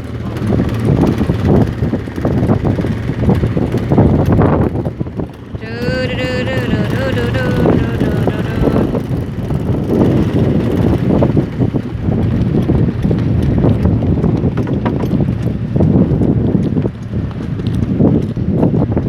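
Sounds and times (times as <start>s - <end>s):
boat engine knocking: 0.0s - 19.0s
wind rumble on microphone: 0.0s - 19.0s.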